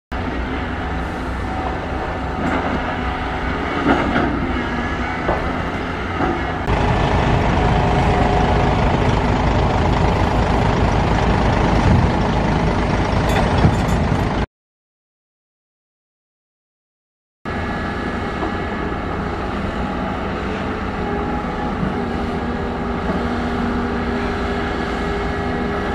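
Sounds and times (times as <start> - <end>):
excavator diesel engine: 0.1 - 14.5, 17.5 - 25.9.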